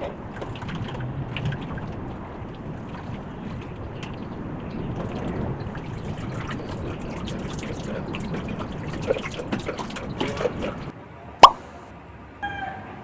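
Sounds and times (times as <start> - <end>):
water trickling and splashing: 0.0 - 10.9
water drips: 0.0 - 11.6.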